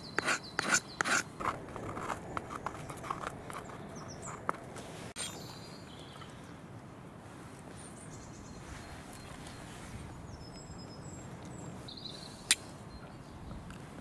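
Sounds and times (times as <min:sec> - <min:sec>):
birds chirping: 0:00.0 - 0:06.7, 0:07.7 - 0:13.7.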